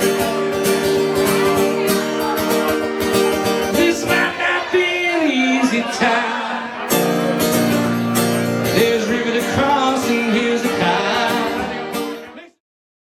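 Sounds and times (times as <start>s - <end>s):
country-rock music with singing: 0.0s - 12.4s.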